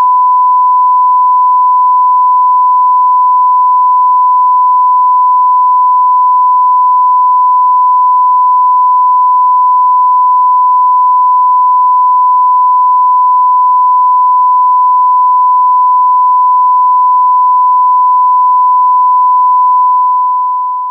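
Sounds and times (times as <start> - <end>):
steady test tone beep: 0.0 - 20.9.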